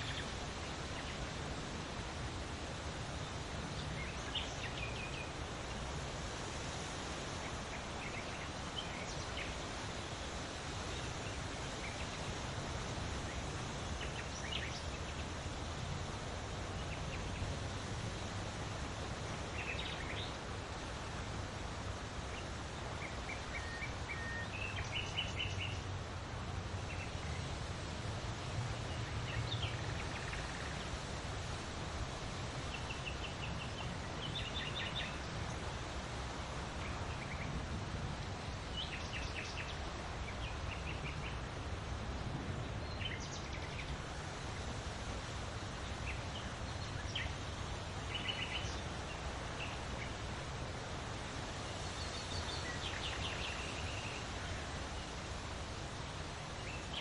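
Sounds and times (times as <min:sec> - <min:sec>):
wind blowing with low rumble: 0:00.0 - 0:57.0.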